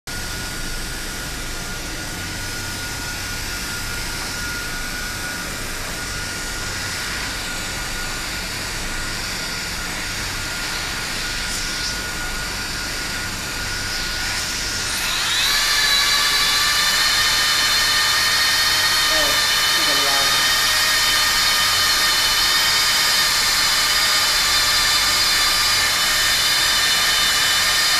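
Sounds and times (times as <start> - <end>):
hot-air blower hissing and whining: 0.1 - 27.9.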